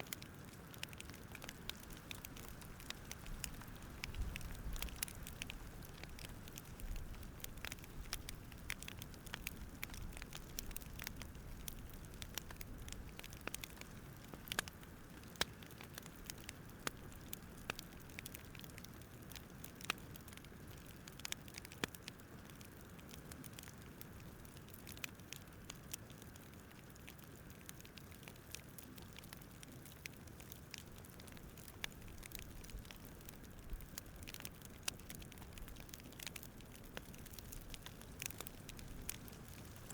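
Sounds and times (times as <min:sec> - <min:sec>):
campfire snaps and pops: 0:00.0 - 0:39.9
low fire hiss: 0:00.0 - 0:39.9.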